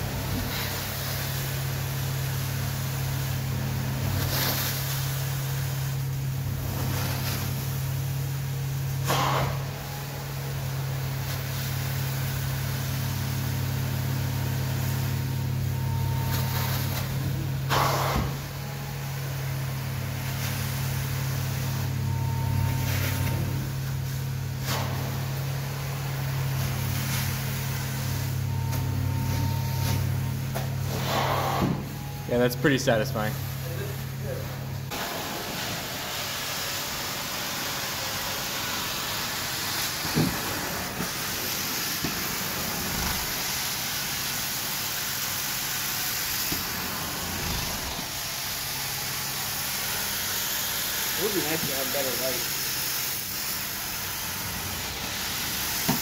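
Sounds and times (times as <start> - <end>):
carpet extraction machine droning: 0.0 - 56.0.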